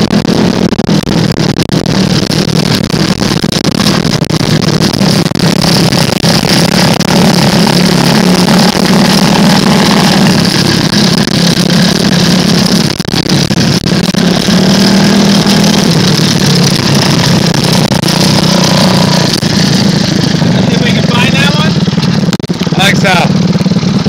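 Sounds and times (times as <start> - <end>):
buggy engine running under load: 0.0 - 24.0.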